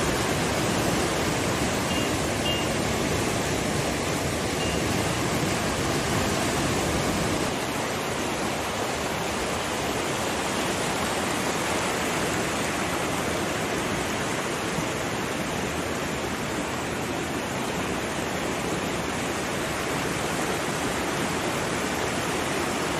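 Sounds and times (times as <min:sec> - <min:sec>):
floodwater rushing: 0:00.0 - 0:22.9.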